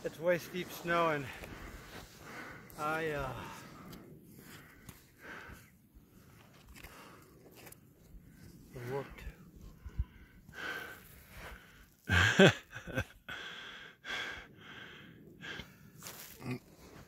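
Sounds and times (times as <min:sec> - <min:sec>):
person breathing heavily: 0:00.6 - 0:07.5, 0:08.1 - 0:12.5, 0:13.2 - 0:17.0.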